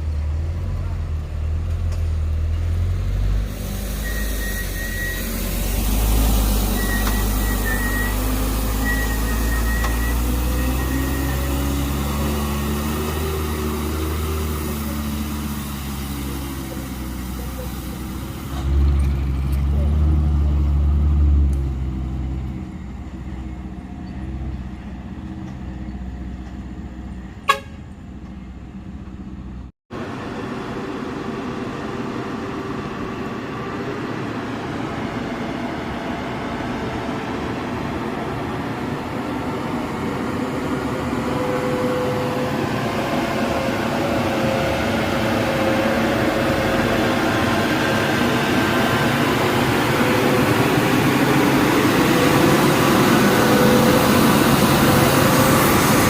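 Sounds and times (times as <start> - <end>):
truck diesel engine climbing: 0.0 - 56.0
whining engine: 1.9 - 56.0.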